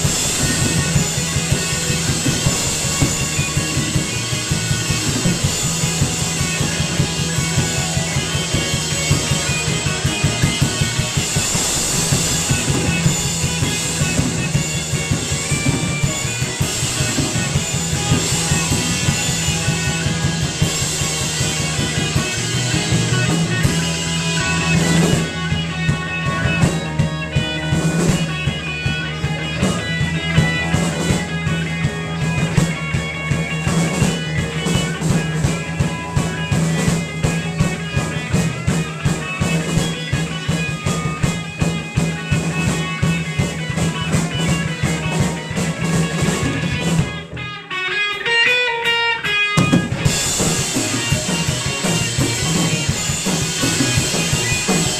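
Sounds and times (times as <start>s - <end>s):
drum hits: 0.0s - 47.2s, 49.6s - 54.9s
rock band playing: 0.0s - 54.9s.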